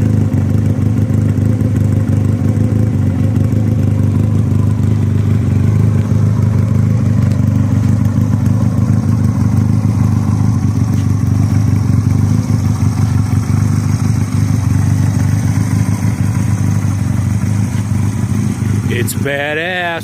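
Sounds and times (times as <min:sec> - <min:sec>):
motor trike engine idling: 0:00.0 - 0:20.0.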